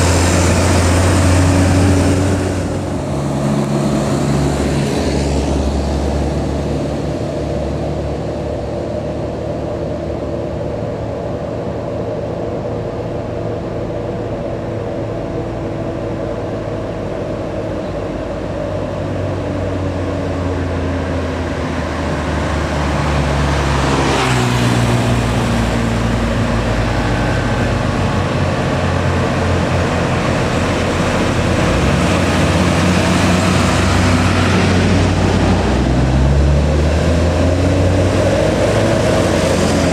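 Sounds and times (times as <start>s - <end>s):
diesel trucks climbing: 0.0s - 39.9s.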